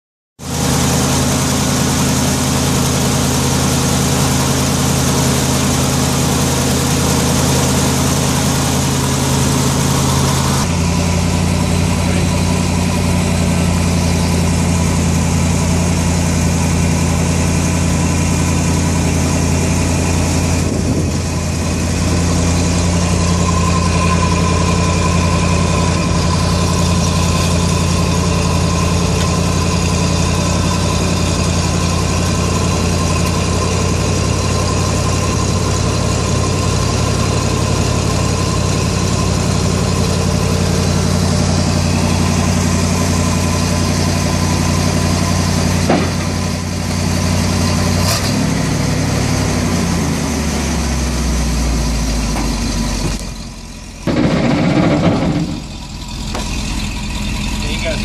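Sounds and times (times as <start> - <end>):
truck engine idling: 0.4 - 58.0
hydraulic hoist whine: 0.5 - 58.0.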